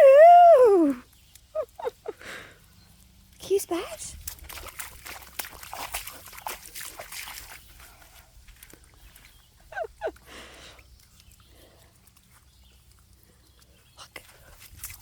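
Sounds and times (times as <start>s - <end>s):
puppies splashing through puddle: 0.0s - 15.0s.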